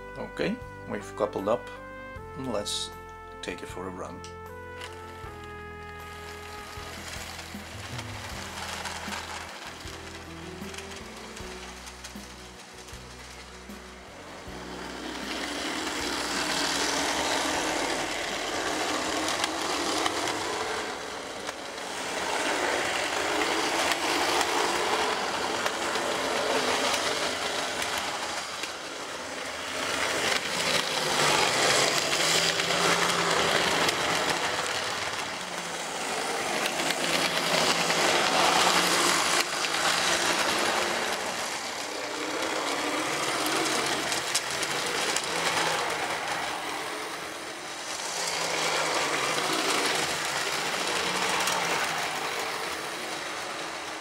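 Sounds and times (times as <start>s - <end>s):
model train rattling over track: 2.4s - 54.0s.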